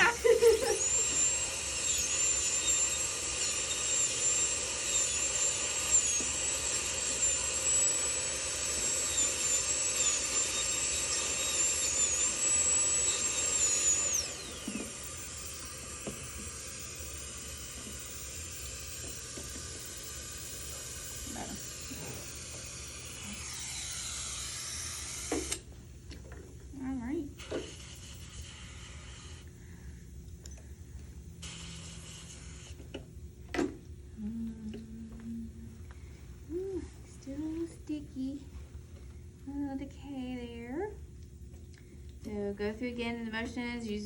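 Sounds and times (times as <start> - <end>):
dental drill whine: 0.0 - 25.8, 26.8 - 41.2, 41.9 - 44.0.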